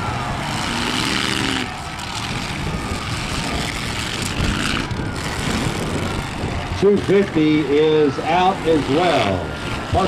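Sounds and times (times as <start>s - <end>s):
car engines running: 0.0s - 10.0s
engine revving: 0.0s - 10.0s.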